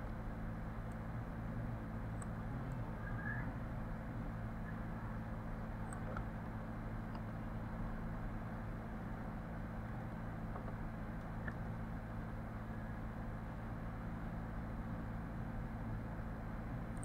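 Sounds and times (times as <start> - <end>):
low electrical hum with hiss: 0.0 - 17.0.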